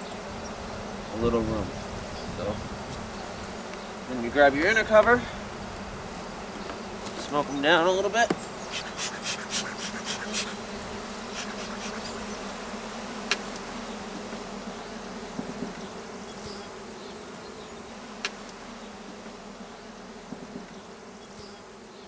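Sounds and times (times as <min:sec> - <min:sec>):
honeybees buzzing: 0:00.0 - 0:22.0
bee smoker bellows puffs: 0:00.3 - 0:21.6.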